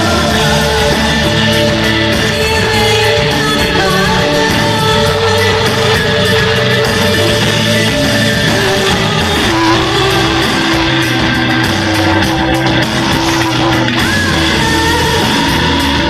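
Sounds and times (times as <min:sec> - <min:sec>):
live band playing guitar music: 0:00.0 - 0:16.0.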